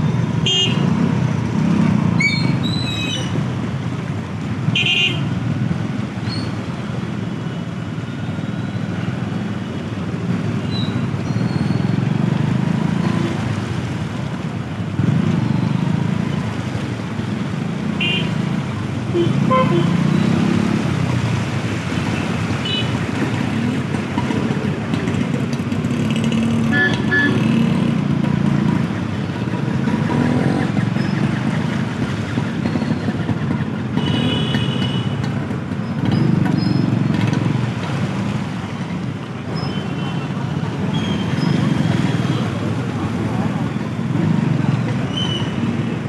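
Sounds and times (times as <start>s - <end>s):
motorcycle engines: 0.0s - 46.0s
traffic driving through flooded street: 0.0s - 46.0s.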